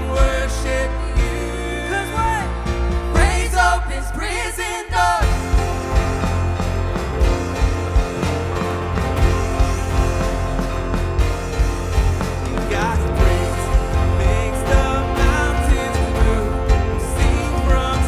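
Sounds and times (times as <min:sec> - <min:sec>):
bass: 0:00.0 - 0:18.0
drums: 0:00.0 - 0:18.0
keyboards: 0:00.0 - 0:18.0
people singing: 0:00.0 - 0:18.0.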